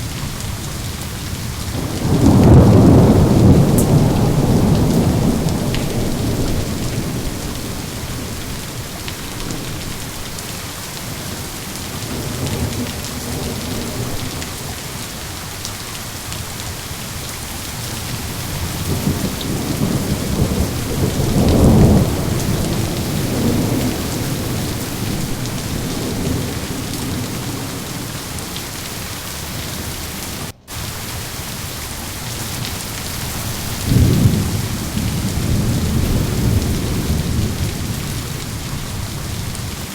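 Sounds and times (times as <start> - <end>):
rain hissing: 0.0 - 39.9
thunder rumbling: 0.0 - 39.9.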